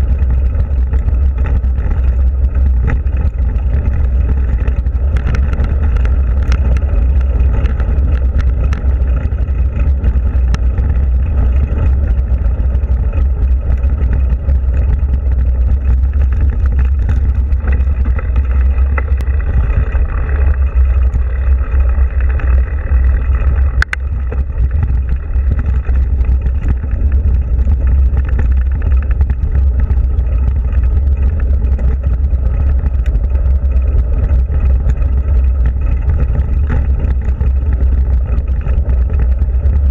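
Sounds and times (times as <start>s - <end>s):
bike tyres crunching on gravel: 0.0s - 39.9s
wind rumble on microphone: 0.0s - 39.9s.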